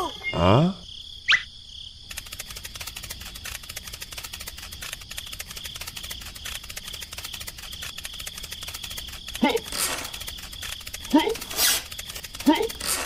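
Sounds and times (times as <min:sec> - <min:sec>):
high insect trill: 0:00.0 - 0:13.0
rapid mechanical clicking: 0:02.1 - 0:13.0.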